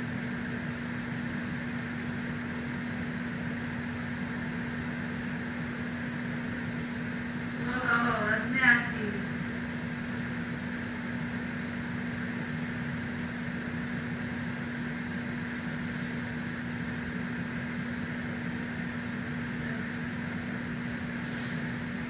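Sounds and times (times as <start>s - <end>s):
steady machine hum with hiss: 0.0s - 22.0s.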